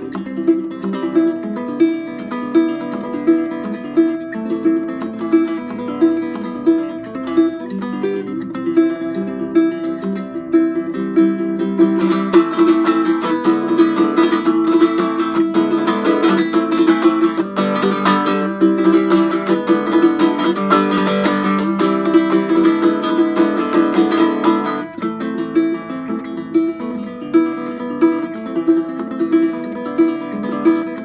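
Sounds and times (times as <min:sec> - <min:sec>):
ukulele plucking and strumming: 0:00.0 - 0:31.0.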